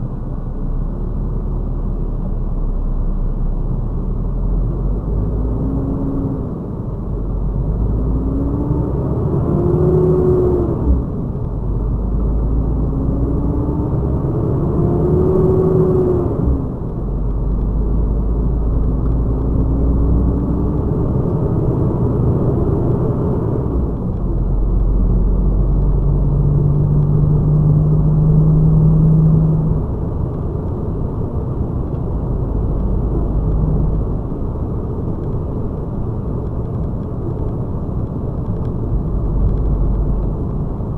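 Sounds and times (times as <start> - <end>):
road rumble: 0.0 - 40.9
truck diesel engine accelerating: 0.0 - 40.9.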